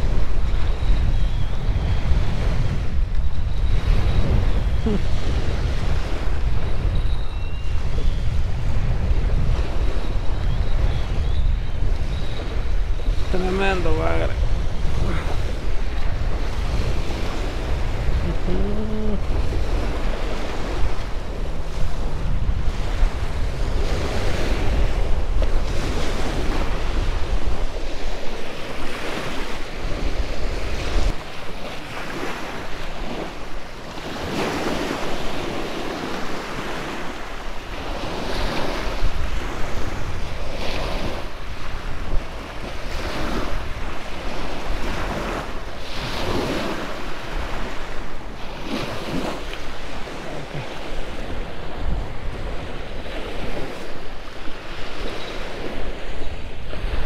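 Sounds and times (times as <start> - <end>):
surf washing on sand: 0.0 - 6.9, 7.7 - 57.0
wind rumbling on microphone: 0.0 - 57.0.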